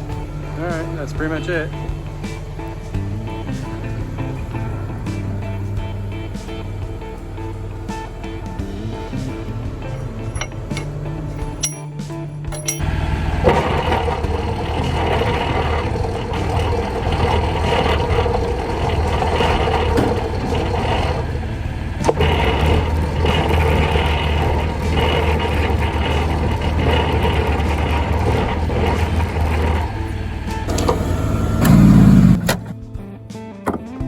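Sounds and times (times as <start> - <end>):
road noise: 0.0 - 33.0
vehicle engine running: 0.0 - 33.1.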